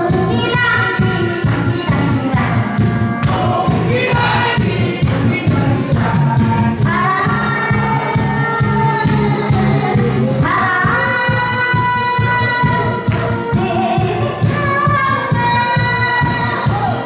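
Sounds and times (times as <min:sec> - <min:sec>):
backing track with steady beat: 0:00.0 - 0:17.0
woman singing into a microphone: 0:00.0 - 0:17.0.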